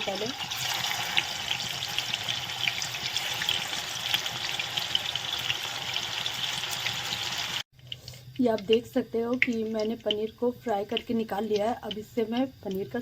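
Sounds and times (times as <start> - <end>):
food frying in hot oil: 0.0 - 13.0
oil crackles and pops: 0.1 - 13.0.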